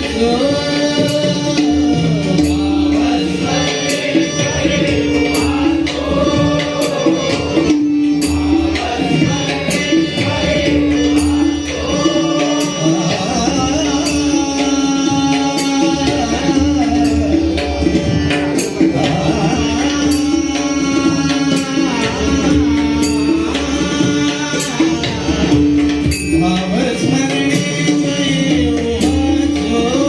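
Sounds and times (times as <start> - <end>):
tabla drumming: 0.0 - 30.0.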